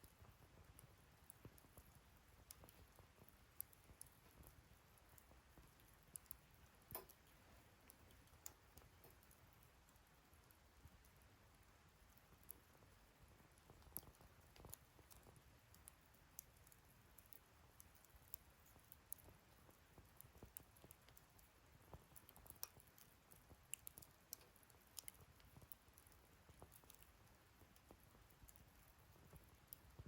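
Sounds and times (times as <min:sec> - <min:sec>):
small pops and ticks: 0:00.0 - 0:30.0
wood fire crackling: 0:00.0 - 0:30.0.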